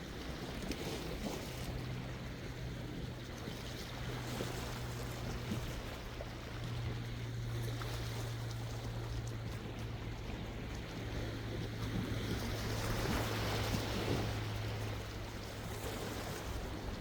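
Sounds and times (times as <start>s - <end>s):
sea waves washing in: 0.0s - 17.0s.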